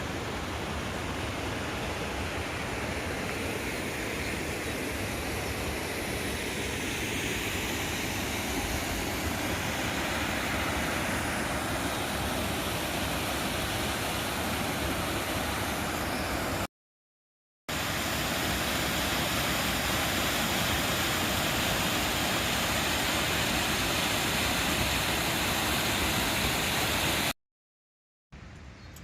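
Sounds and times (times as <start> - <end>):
fast-flowing water rushing: 0.0 - 16.7, 17.7 - 27.3.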